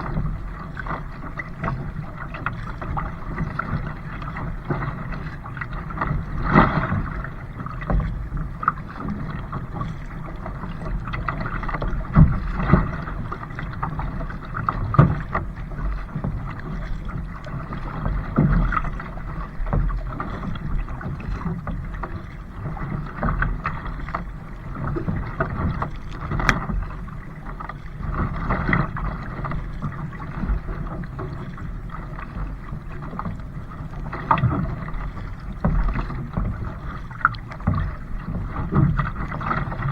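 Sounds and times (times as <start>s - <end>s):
water splashing around kayak: 0.0s - 39.9s.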